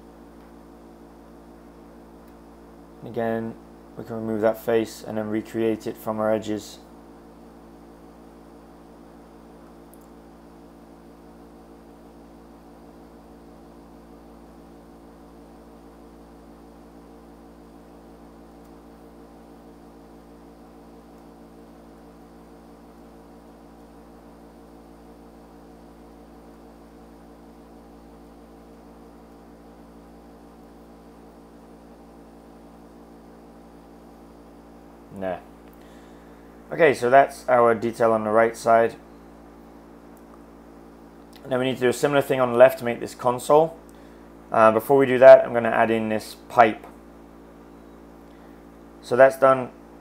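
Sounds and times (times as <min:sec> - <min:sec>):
electrical hum with faint hiss: 0:00.0 - 0:50.0.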